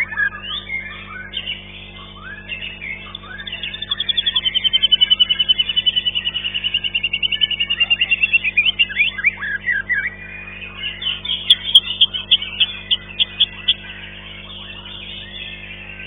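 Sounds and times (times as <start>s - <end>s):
songbird trilling and whistling: 0.0s - 16.0s
steady low hum: 0.0s - 16.0s.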